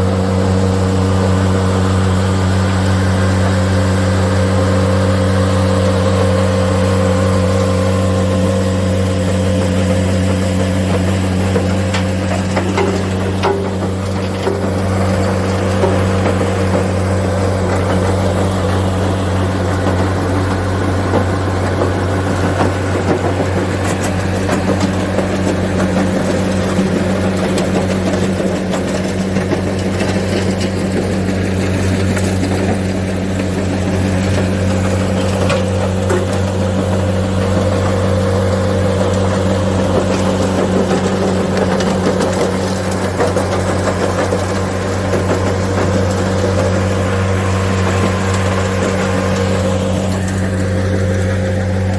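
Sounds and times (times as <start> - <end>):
crusher engine running: 0.0 - 51.9.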